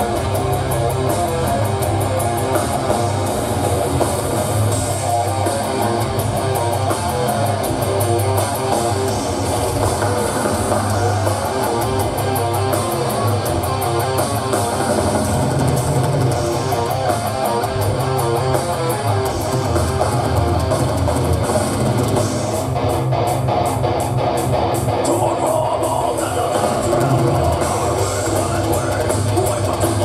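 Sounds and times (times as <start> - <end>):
distorted electric guitar riffing: 0.0 - 30.0
metal band playing live: 0.0 - 30.0.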